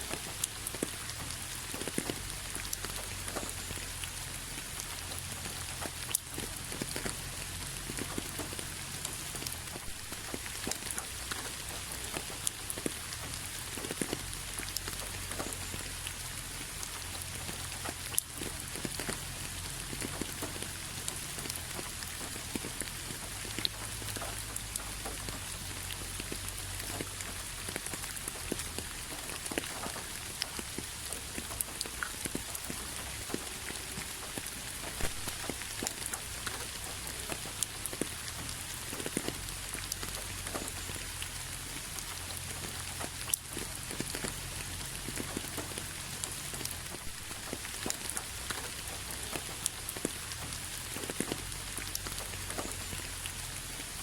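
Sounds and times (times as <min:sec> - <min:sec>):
rain on hard surface: 0:00.0 - 0:54.0
raindrops tapping: 0:00.0 - 0:54.0.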